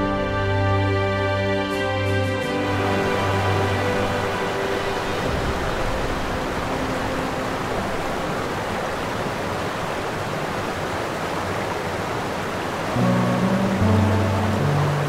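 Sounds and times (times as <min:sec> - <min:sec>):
steady rushing noise: 0:02.4 - 0:15.0.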